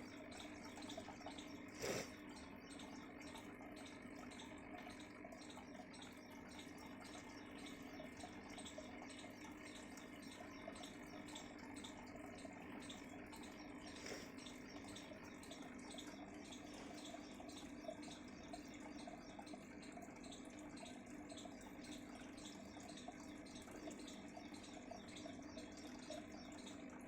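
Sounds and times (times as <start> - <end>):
aquarium water trickling: 0.0 - 27.0
bubble ticks: 0.0 - 27.0
low steady hum: 0.0 - 27.0.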